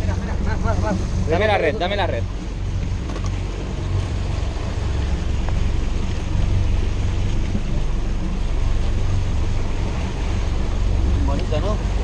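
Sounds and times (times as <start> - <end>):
boat engine droning: 0.0 - 12.0
rushing wake water: 0.0 - 12.0
wind: 0.0 - 12.0.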